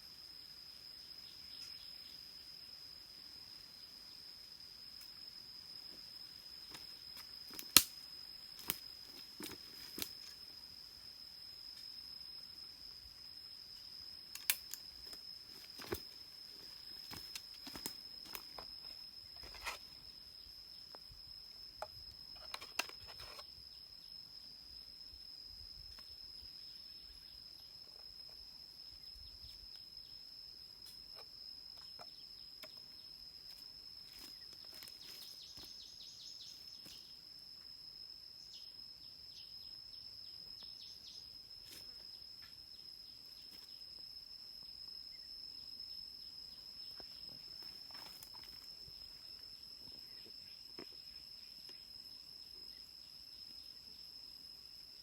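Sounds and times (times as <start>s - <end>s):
insect high-pitched trill: 0.0s - 55.0s.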